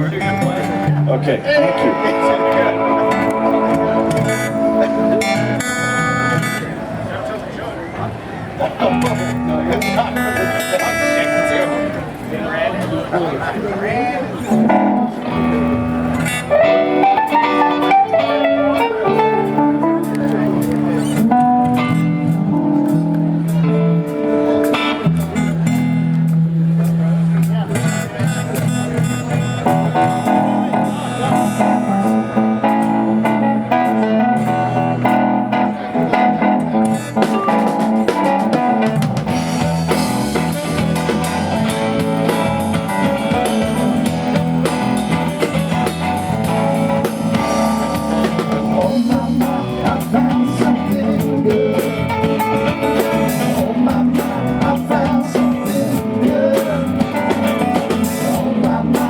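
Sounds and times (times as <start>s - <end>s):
live blues band playing: 0.0s - 59.0s.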